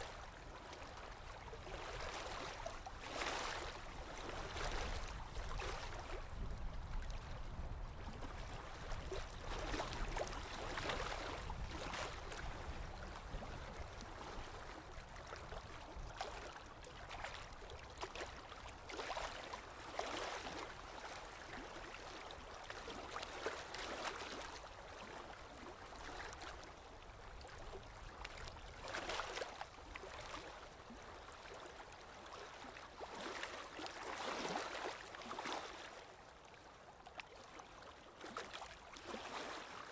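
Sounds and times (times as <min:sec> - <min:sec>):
water flowing and splashing: 0:00.0 - 0:07.1, 0:08.2 - 0:39.9.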